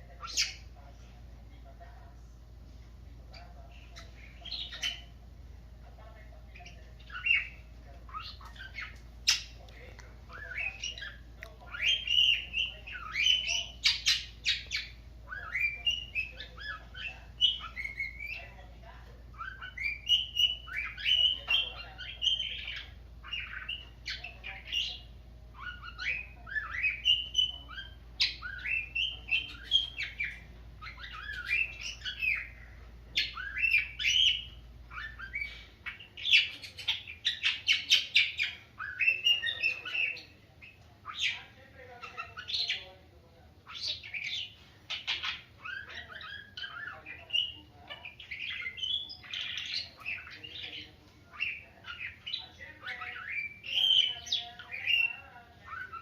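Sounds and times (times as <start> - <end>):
parrots chirping and squawking: 0.0 - 1.8, 2.7 - 56.0.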